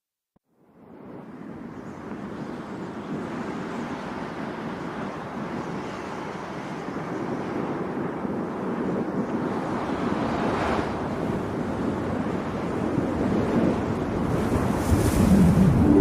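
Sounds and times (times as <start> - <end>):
steady rushing surf or wind noise: 0.6 - 16.0.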